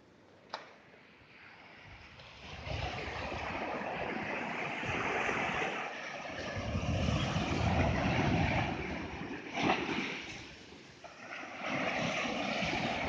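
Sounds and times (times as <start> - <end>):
surf breaking on a beach: 1.4 - 13.0.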